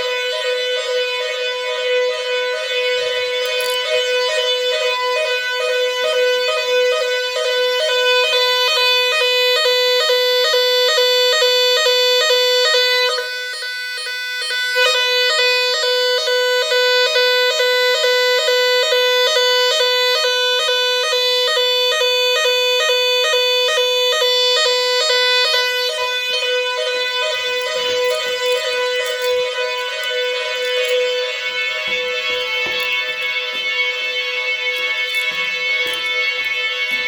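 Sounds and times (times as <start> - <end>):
fire alarm two-tone signal: 0.0 - 37.0.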